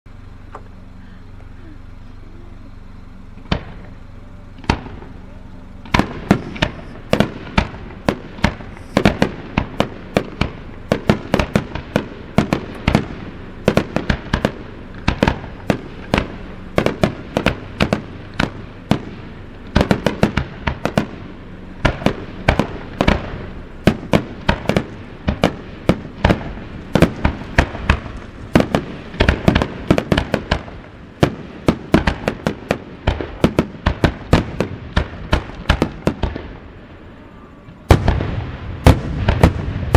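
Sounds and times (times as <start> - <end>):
fireworks bursting: 0.1 - 39.9.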